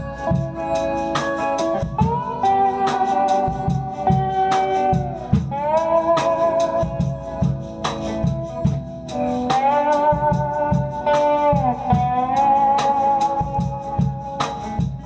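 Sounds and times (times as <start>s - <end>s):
bass: 0.0s - 15.0s
drum beat: 0.0s - 15.0s
lead guitar sliding notes: 0.0s - 15.0s.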